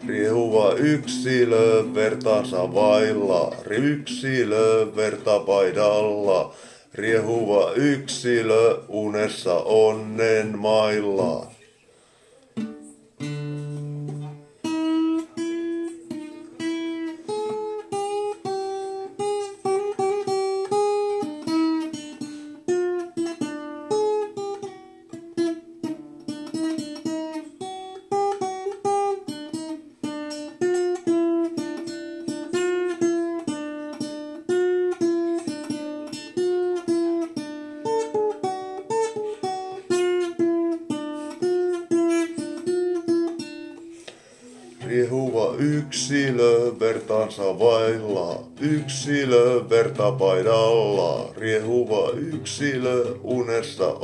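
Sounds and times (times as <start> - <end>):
acoustic guitar picked melody: 0.0 - 54.0.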